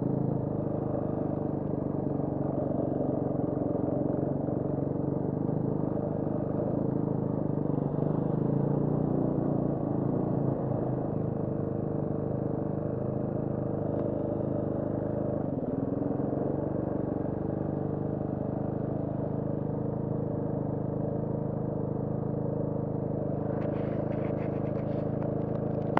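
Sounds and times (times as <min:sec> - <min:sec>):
dirt bike engine idling: 0:00.0 - 0:25.9.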